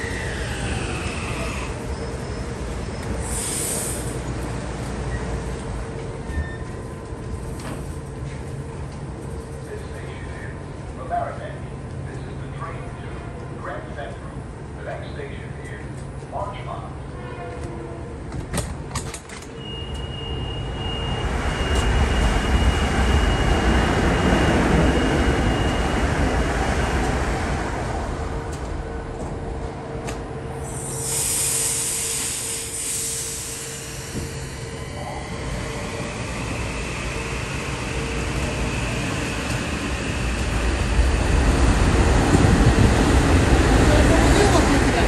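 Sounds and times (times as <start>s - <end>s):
high train whine: 0.0s - 45.0s
train wheels rumbling on rail: 0.0s - 45.0s.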